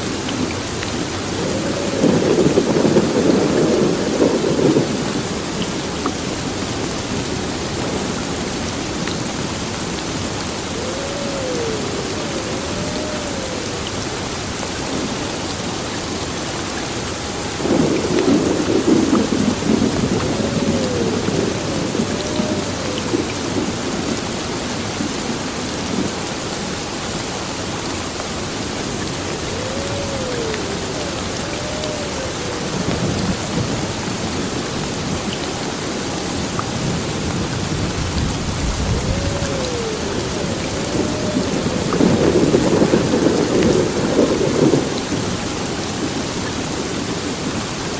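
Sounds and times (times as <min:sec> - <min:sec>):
thunder rumbling: 0:00.0 - 0:15.3, 0:17.6 - 0:26.2, 0:28.6 - 0:45.5
heavy rain pouring: 0:00.0 - 0:47.9.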